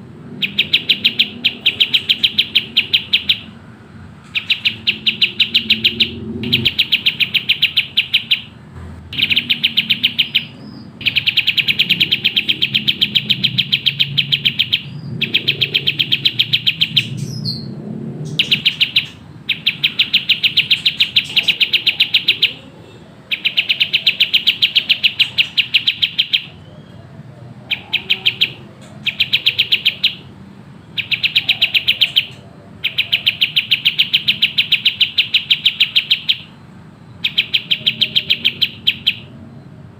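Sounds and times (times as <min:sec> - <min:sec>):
songbird rapid sharp chirps: 0:00.1 - 0:03.6, 0:04.2 - 0:39.7.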